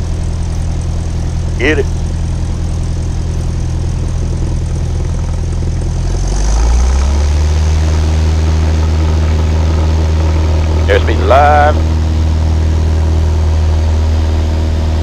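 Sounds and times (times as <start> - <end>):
propeller plane engine: 0.0 - 15.0.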